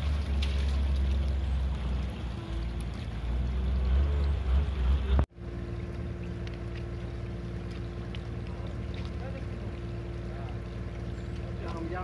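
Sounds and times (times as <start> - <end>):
steady engine hum: 0.0 - 12.0.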